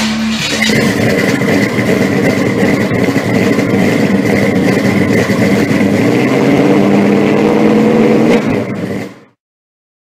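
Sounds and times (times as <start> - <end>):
car engine running loudly: 0.0 - 9.4.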